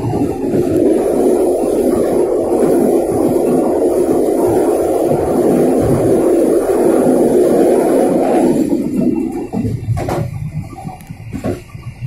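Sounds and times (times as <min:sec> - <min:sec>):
train wheels rumbling on bridge: 0:00.0 - 0:12.0.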